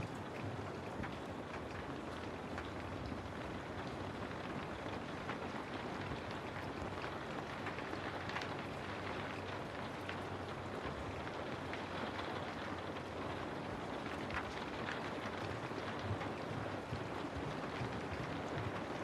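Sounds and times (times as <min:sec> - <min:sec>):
rain falling: 0:00.0 - 0:19.0
raindrops ticking on a surface: 0:00.0 - 0:19.0.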